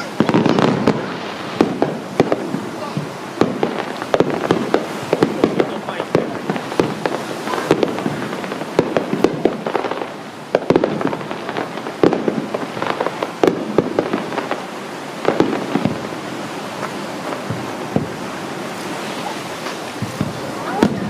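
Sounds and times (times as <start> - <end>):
fireworks booms and cracks: 0.0 - 21.0.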